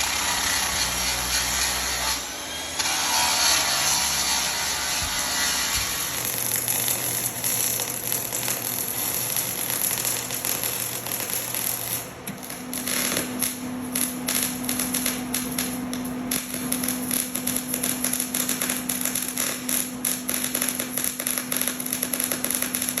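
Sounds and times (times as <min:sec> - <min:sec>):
steady low hum: 0:00.0 - 0:21.2
welding arc crackling: 0:00.0 - 0:23.0.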